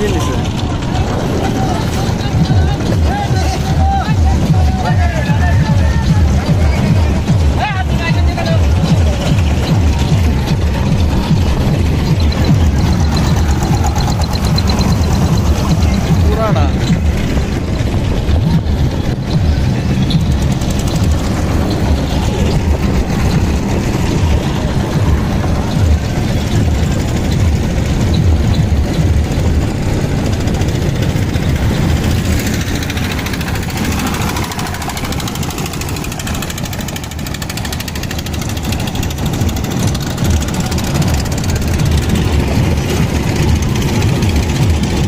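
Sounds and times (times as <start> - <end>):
motorboat engine chugging: 0.0 - 45.0.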